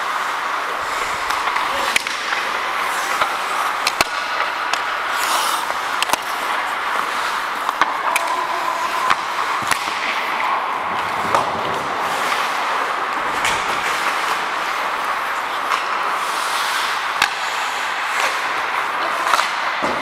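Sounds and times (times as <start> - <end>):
skate blades scraping ice: 0.0 - 19.8
hockey sticks and puck clacking: 0.0 - 20.0.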